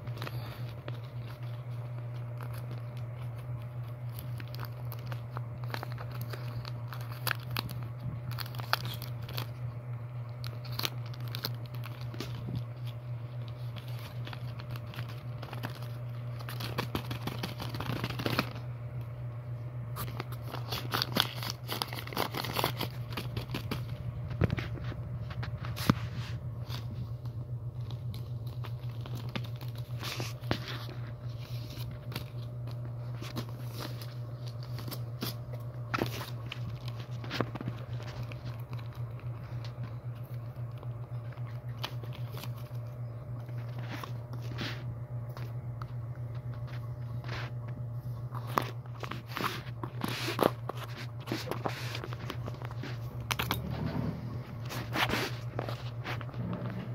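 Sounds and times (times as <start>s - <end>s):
wrappers crinkling and rustling: 0.0s - 19.2s, 19.9s - 56.9s
steady low hum: 0.0s - 56.9s.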